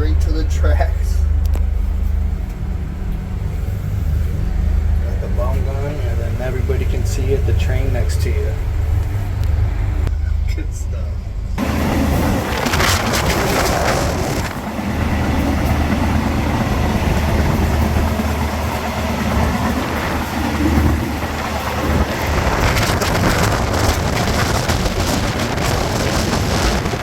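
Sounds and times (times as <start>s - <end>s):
train rumbling on tracks: 0.0s - 27.0s.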